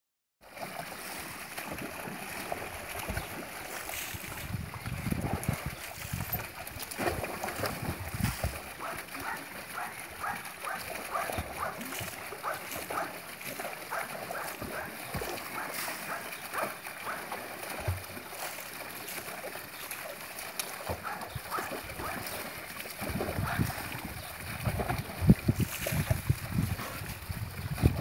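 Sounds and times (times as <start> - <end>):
dog splashing in water: 0.6 - 28.0.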